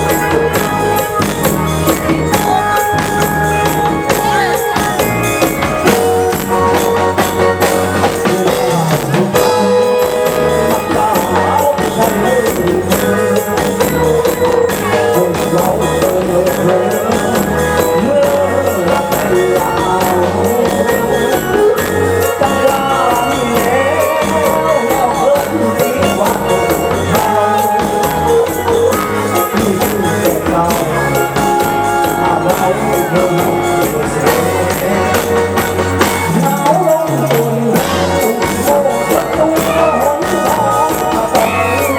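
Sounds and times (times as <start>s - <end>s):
dance band music: 0.0s - 41.9s
drums keeping steady beat: 0.0s - 41.9s.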